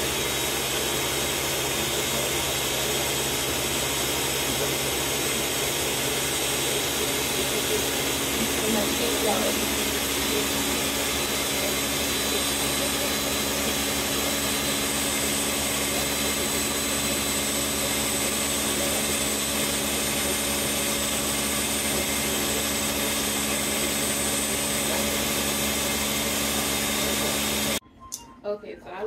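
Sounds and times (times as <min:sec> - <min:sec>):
blender motor running: 0:00.0 - 0:27.8.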